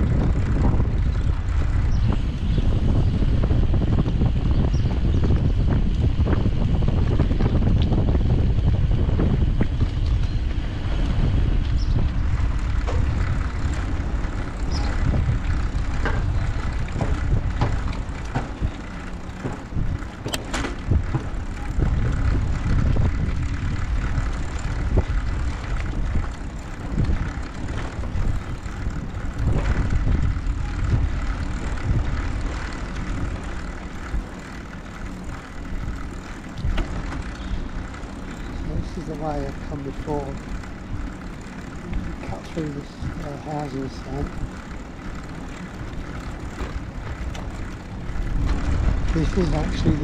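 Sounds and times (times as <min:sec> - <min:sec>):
tyres rolling on tarmac: 0:00.0 - 0:50.0
wind rumble on microphone: 0:00.0 - 0:50.0.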